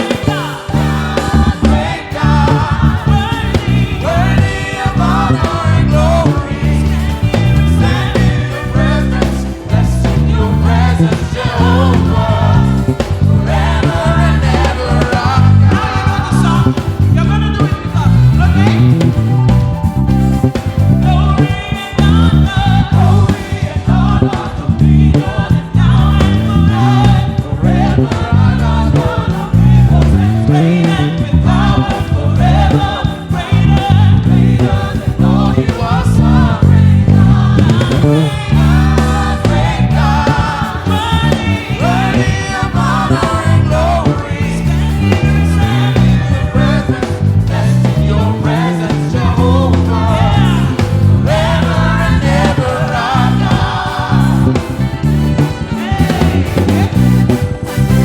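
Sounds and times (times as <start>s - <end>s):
full band with bass: 0.0s - 58.0s
gospel choir singing: 0.0s - 58.0s.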